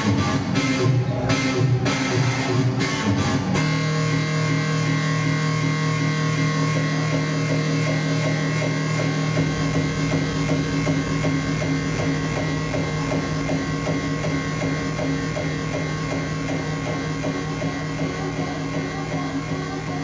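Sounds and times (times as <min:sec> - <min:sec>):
hardcore electronic music: 0:00.0 - 0:20.0.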